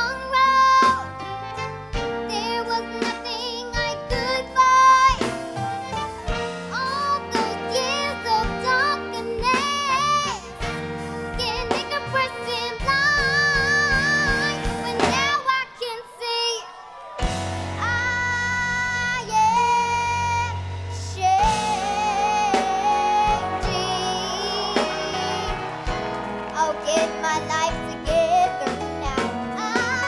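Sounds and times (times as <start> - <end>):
instrumental accompaniment: 0.0 - 15.5, 17.2 - 30.0
girl singing ballad: 0.0 - 30.0.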